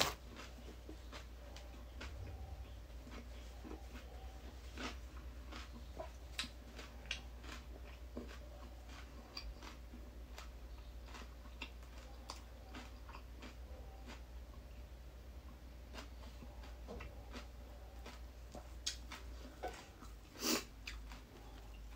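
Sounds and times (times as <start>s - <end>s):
crunchy chewing: 0.0s - 21.9s.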